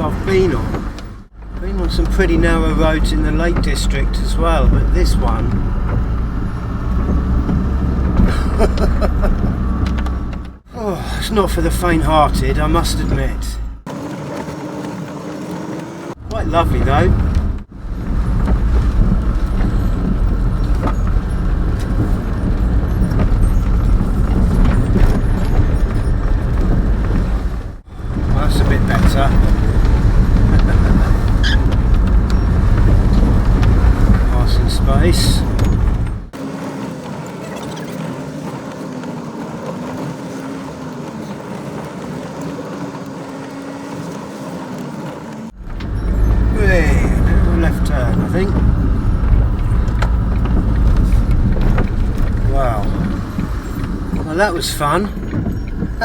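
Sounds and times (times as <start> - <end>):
light rattles: 0.0 - 56.0
van engine and road noise: 0.0 - 56.0.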